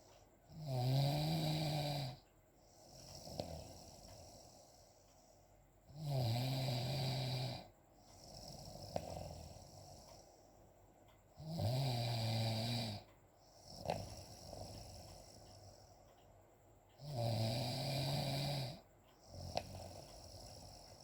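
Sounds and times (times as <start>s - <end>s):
quiet breathing: 0.0s - 21.0s
person snoring: 0.5s - 2.2s, 2.8s - 5.0s, 5.9s - 10.4s, 11.4s - 15.9s, 17.0s - 21.0s.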